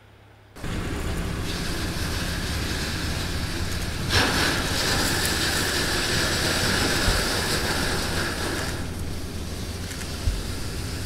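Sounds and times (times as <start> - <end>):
vehicle rumbling down steel ramp: 0.6 - 11.0.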